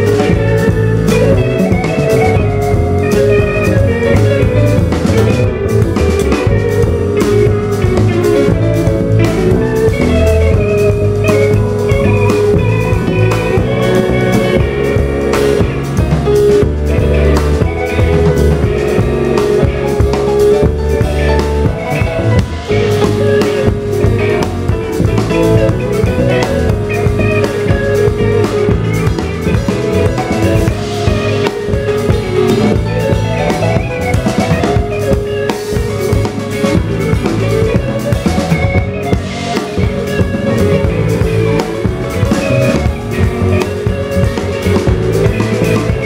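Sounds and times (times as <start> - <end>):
drum kit with rimshots: 0.0 - 46.0
electric guitar picking: 0.0 - 46.0
upright bass: 0.0 - 46.0.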